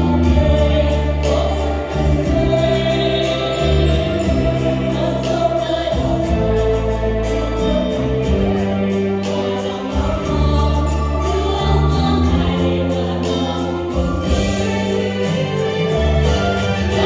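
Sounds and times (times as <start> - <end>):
low bass line: 0.0 - 17.0
mixed choir singing: 0.0 - 17.0.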